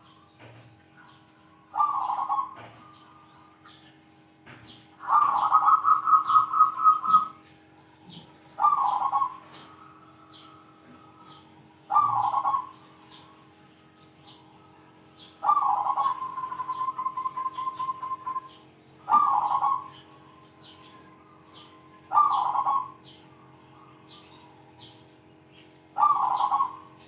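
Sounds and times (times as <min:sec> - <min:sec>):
dove cooing: 0:00.0 - 0:03.4, 0:05.0 - 0:07.4, 0:08.0 - 0:13.6, 0:15.2 - 0:24.9, 0:25.9 - 0:27.0
steady low hum: 0:00.0 - 0:27.0.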